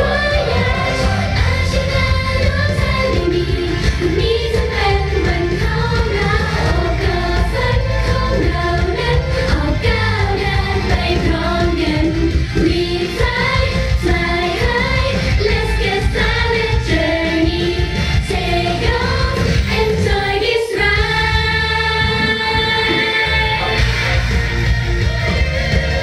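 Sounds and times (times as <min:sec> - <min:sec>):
women singing into microphones: 0:00.0 - 0:23.8
amplified pop backing music: 0:00.0 - 0:26.0.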